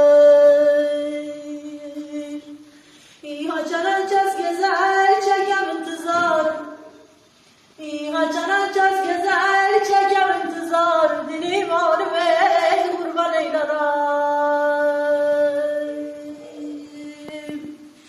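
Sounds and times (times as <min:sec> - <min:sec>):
woman singing unaccompanied: 0:00.0 - 0:07.1, 0:07.8 - 0:18.0.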